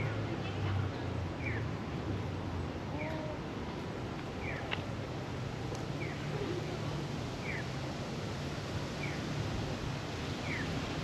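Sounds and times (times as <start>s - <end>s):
background hiss and rumble: 0.0s - 11.0s.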